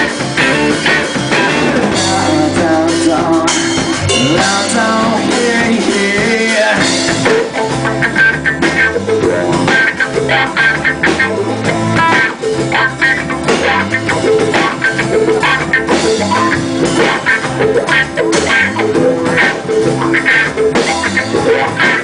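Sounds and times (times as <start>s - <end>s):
drum kit steady beat: 0.0s - 22.0s
guitar: 0.0s - 22.0s
live rock band playing: 0.0s - 22.0s.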